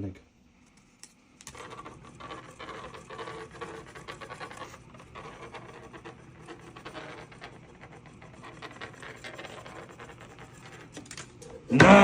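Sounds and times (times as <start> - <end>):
paper scratching and rustling: 1.4 - 11.6.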